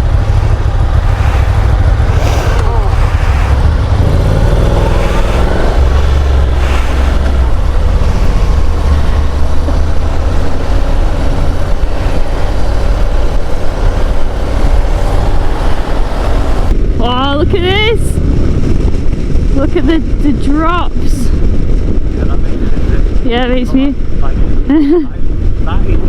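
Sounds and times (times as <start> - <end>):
motorcycle engine accelerating: 0.0 - 26.0
wind noise: 0.0 - 26.0.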